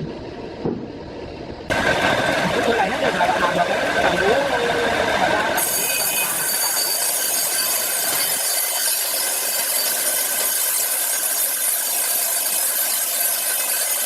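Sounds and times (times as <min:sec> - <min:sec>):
power saw cutting log: 0:01.7 - 0:14.0.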